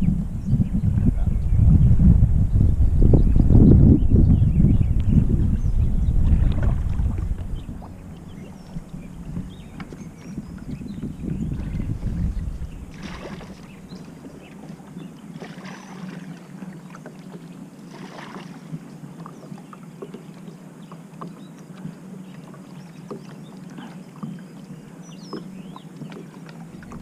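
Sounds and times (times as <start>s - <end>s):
low steady hum: 0.0s - 27.0s
water lapping against kayak hull: 4.7s - 27.0s.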